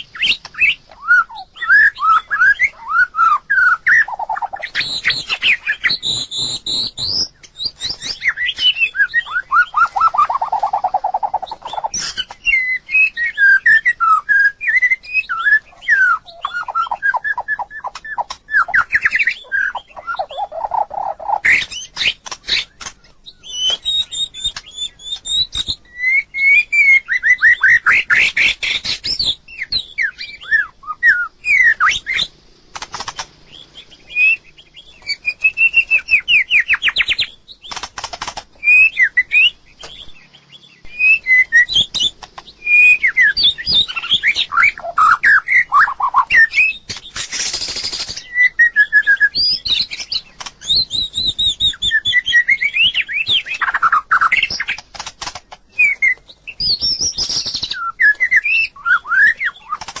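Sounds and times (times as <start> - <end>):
bird singing whistled phrases: 0.0 - 32.3, 33.5 - 37.8, 38.6 - 54.8, 55.7 - 59.9.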